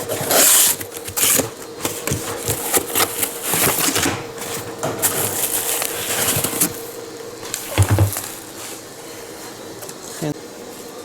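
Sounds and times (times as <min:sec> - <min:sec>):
packaging rustling: 0:00.0 - 0:09.3
faint steady hum: 0:00.0 - 0:11.0.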